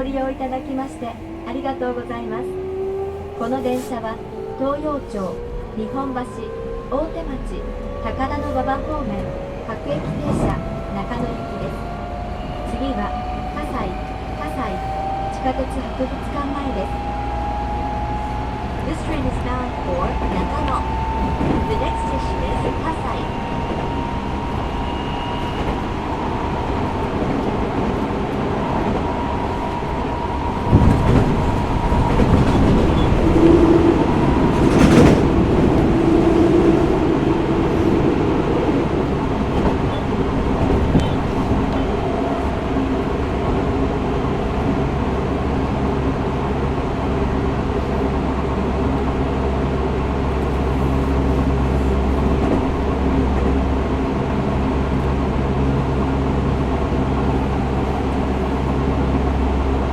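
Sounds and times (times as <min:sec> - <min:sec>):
wheel and rail noise: 0:00.0 - 0:59.9.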